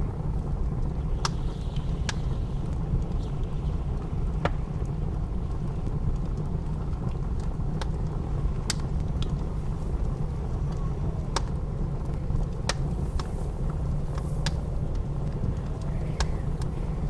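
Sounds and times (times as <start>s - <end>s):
low rumble of wind: 0.0s - 17.0s
wood fire crackling: 0.0s - 17.0s
sharp pops from fire: 0.1s - 17.0s.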